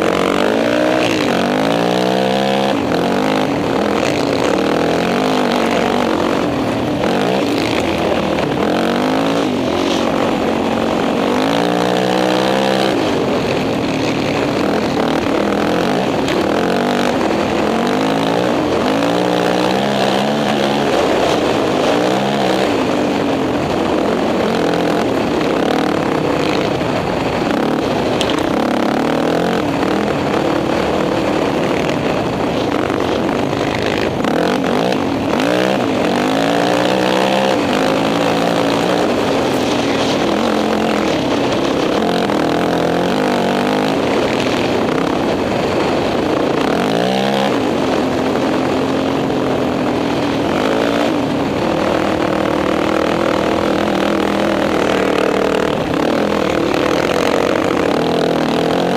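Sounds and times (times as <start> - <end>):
quad engine revving: 0.0 - 58.9.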